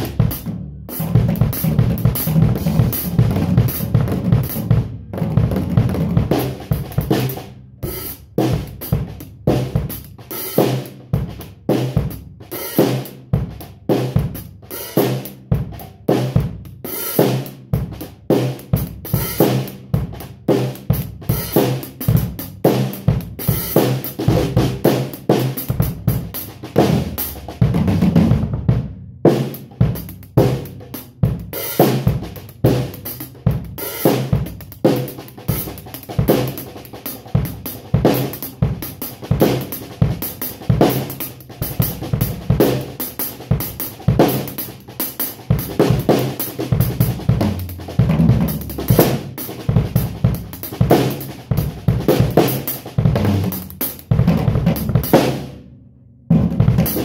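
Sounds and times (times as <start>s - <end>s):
drum kit playing: 0.0s - 55.7s, 56.3s - 57.0s.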